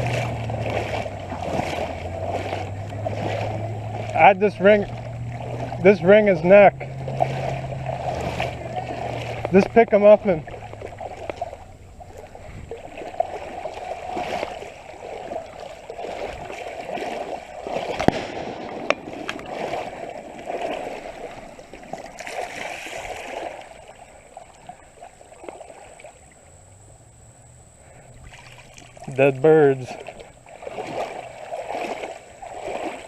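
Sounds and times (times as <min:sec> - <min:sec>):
water sloshing and gurgling: 0:00.0 - 0:33.0.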